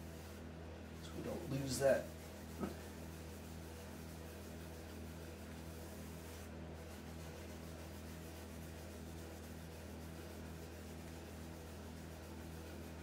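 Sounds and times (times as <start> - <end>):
rag rubbing on wood: 0.0 - 13.0
steady low hum: 0.0 - 13.0.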